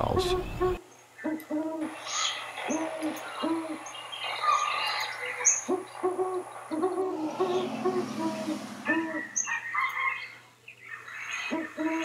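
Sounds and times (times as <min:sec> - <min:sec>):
owl hooting: 0:00.0 - 0:10.4
faint bird chirps: 0:02.0 - 0:12.0.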